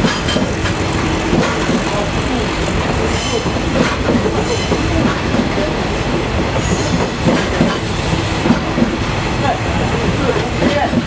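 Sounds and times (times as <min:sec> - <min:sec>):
train rumble: 0:00.0 - 0:11.0
train wheels clattering over rail joints: 0:00.0 - 0:11.0.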